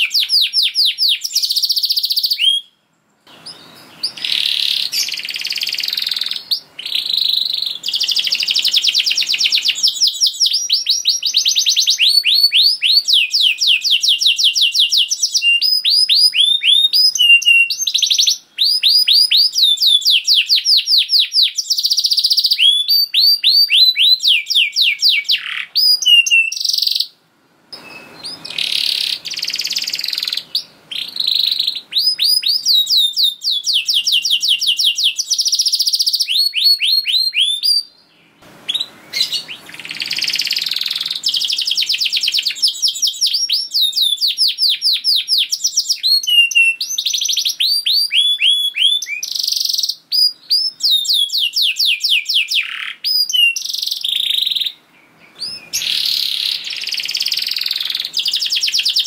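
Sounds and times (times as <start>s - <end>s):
canary singing rapid trills: 0.0s - 27.2s, 27.8s - 59.0s.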